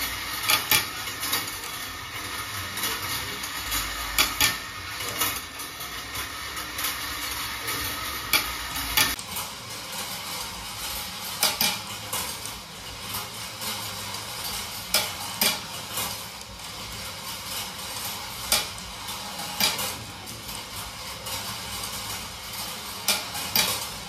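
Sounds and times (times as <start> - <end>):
marbles clicking on metal: 0.0 - 24.0
marbles rolling on wire tracks: 0.0 - 24.0.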